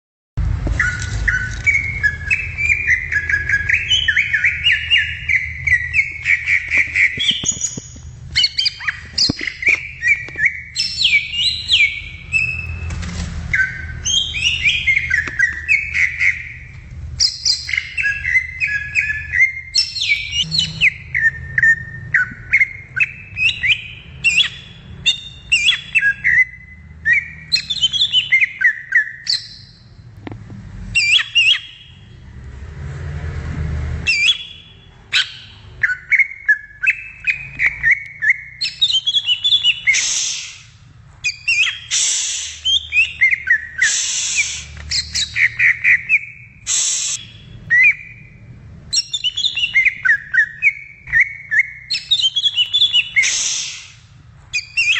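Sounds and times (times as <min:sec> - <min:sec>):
bird singing varied song: 0:00.8 - 0:12.9, 0:13.5 - 0:30.1, 0:30.9 - 0:32.2, 0:34.0 - 0:54.9.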